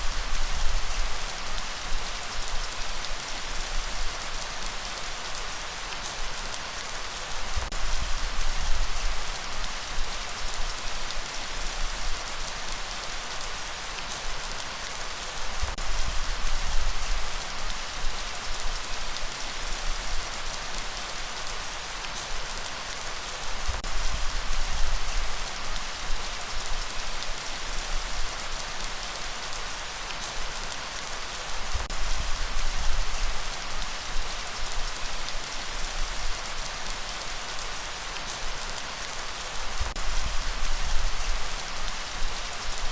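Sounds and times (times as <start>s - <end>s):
dense rain pattering: 0.0s - 42.9s.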